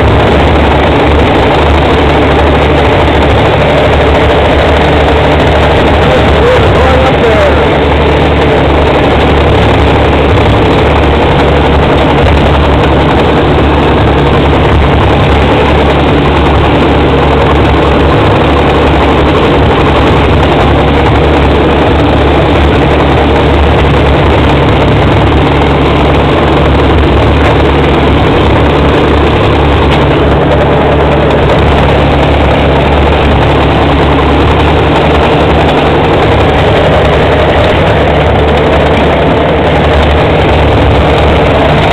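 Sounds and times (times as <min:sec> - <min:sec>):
bulldozer diesel engine running: 0:00.0 - 0:41.9.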